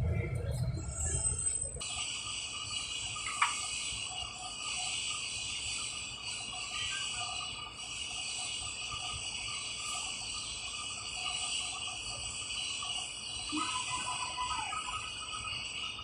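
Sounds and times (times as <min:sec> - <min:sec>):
insects chirping: 0:00.8 - 0:16.0
bright insect call: 0:01.8 - 0:16.0.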